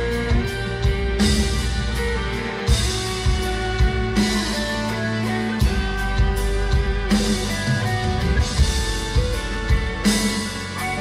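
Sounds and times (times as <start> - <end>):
bass: 0.0 - 11.0
drum kit: 0.0 - 11.0
electric guitars: 0.0 - 11.0
keyboards: 0.0 - 11.0.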